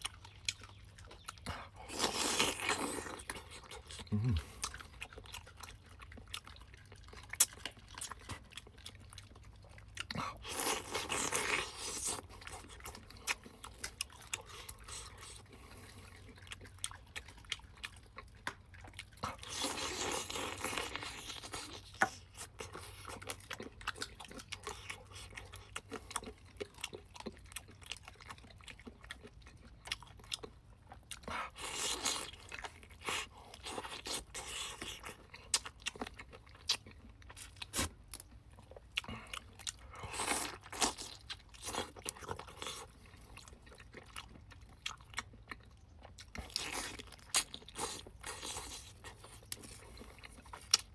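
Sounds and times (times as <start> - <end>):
person chewing and crunching: 0.0 - 50.9.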